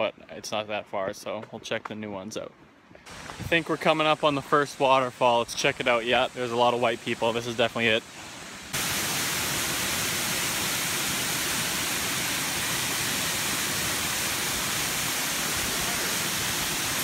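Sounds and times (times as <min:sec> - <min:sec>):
waterfall rushing: 0:03.1 - 0:17.0.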